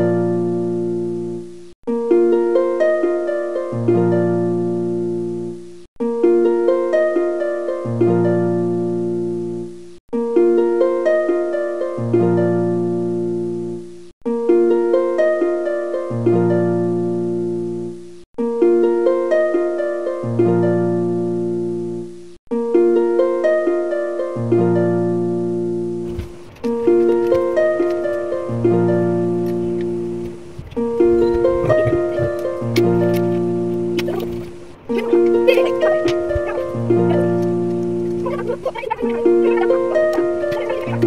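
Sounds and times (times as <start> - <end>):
bass notes: 0.0 - 41.0
plucked-string notes: 0.0 - 41.0.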